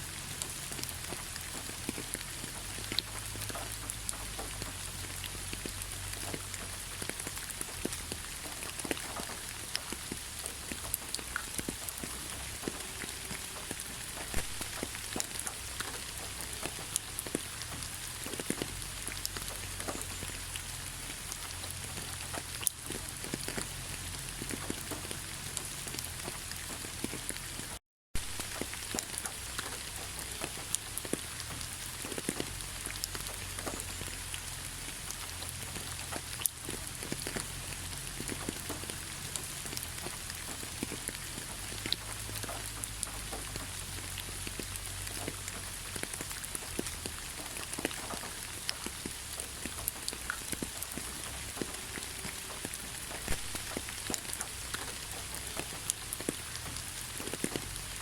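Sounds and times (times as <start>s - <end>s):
heavy rain falling: 0.0s - 58.0s
raindrops ticking: 0.0s - 58.0s.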